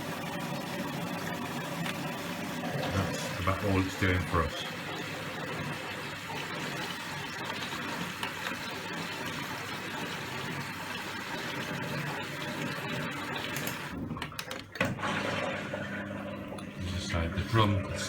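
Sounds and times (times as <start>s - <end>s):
washing machine pump whirring: 0.0s - 18.0s.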